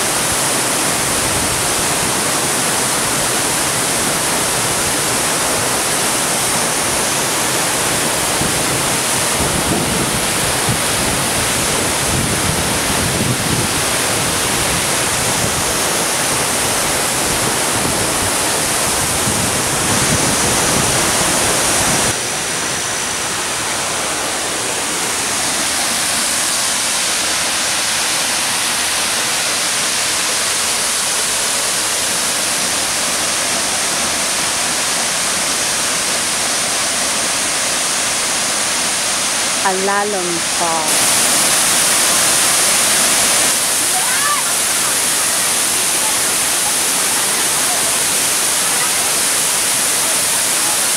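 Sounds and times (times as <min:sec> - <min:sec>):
waterfall crashing onto boulders: 0:00.0 - 0:50.9.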